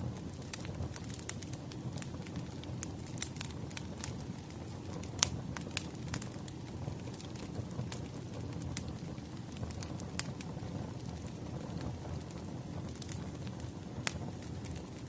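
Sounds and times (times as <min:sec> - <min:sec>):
wood fire crackling: 0:00.0 - 0:15.0
sharp pops of burning logs: 0:00.1 - 0:15.0.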